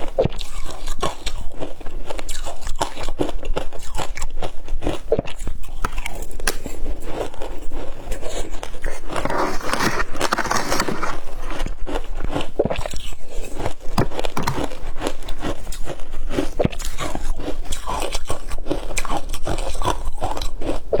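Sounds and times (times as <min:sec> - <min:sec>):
chewing crunchy ice: 0:00.0 - 0:21.0.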